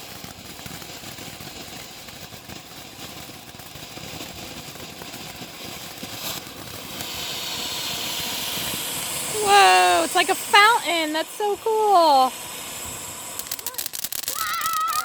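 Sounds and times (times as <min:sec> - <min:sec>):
firework fountain hissing: 0:00.0 - 0:15.0.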